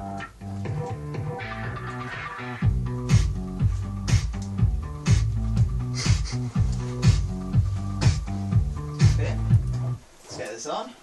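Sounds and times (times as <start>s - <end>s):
guitar and bass riff: 0.0s - 10.0s
heavy low beat thuds: 0.0s - 10.0s.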